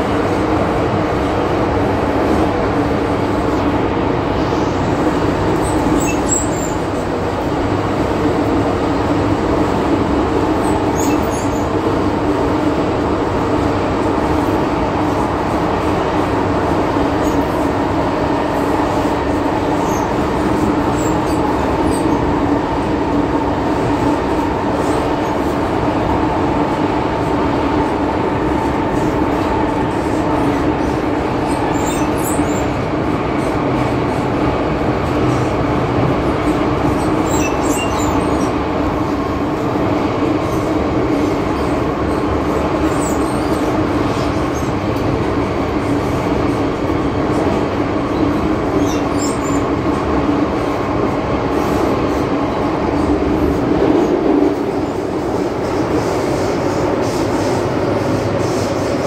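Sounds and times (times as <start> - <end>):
steady train hum: 0.0 - 59.0
train wheels rumbling: 0.0 - 59.0.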